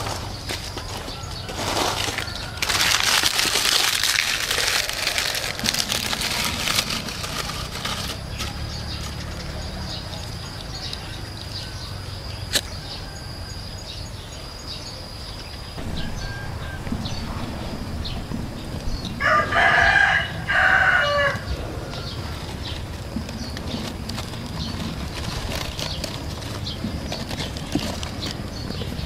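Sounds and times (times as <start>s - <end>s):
birds chirping: 0.0s - 2.9s, 4.5s - 29.0s
dry leaves rustling and crackling: 0.0s - 12.1s, 15.8s - 29.0s.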